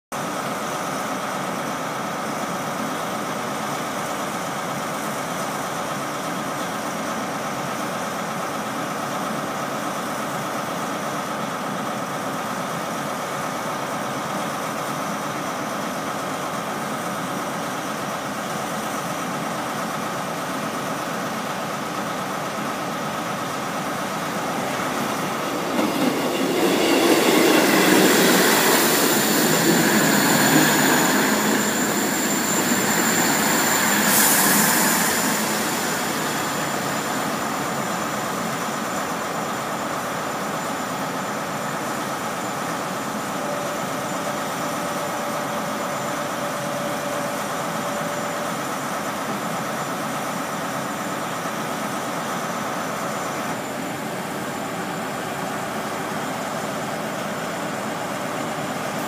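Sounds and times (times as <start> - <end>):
diesel train arriving: 0.2 - 59.0
diesel train idling: 0.2 - 59.0.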